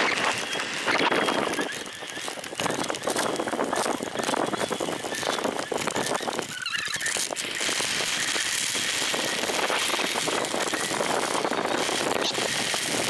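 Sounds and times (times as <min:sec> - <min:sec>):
tyres crunching on gravel: 0:00.0 - 0:13.0
wind rushing over microphone: 0:00.0 - 0:13.0.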